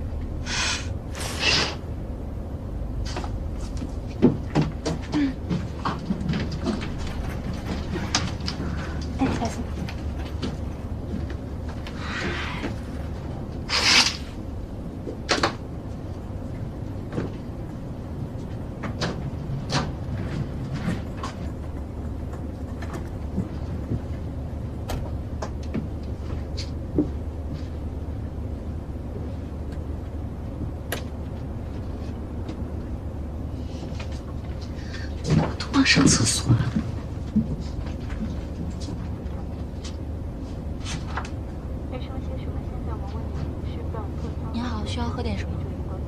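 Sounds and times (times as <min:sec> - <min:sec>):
airliner cabin hum: 0:00.0 - 0:46.0.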